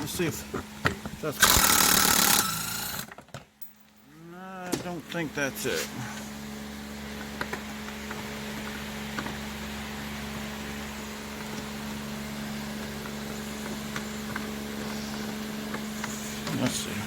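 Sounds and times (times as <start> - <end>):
electrical machine hum: 0.0 - 17.0.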